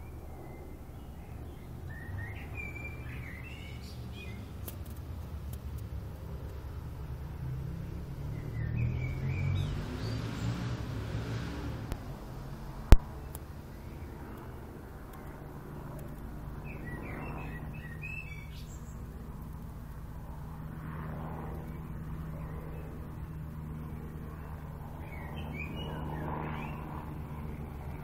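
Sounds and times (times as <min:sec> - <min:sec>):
small birds chirping: 0:00.0 - 0:11.3, 0:11.9 - 0:28.0
steady low hum: 0:00.0 - 0:28.0.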